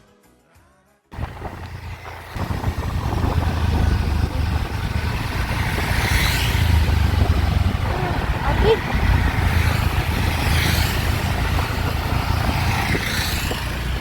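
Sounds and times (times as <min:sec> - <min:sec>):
motor vehicle rumble: 0:01.2 - 0:14.0.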